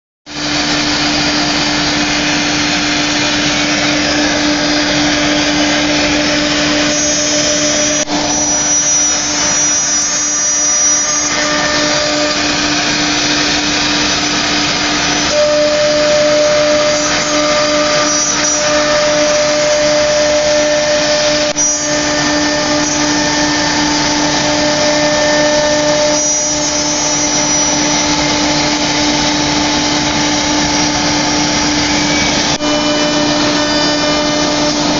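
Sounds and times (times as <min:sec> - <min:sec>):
wood router whining: 0:00.3 - 0:34.9.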